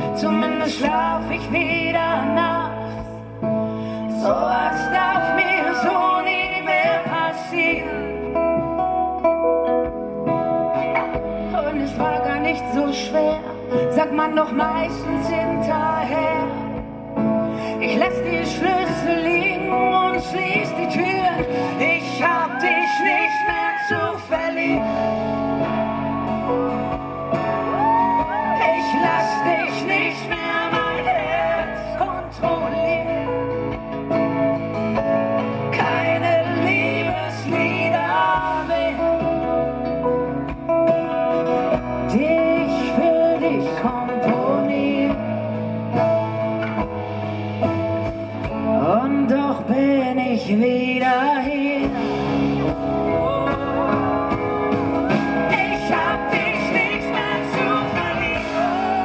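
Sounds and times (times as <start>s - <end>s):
live pop band with singing: 0.0s - 59.0s.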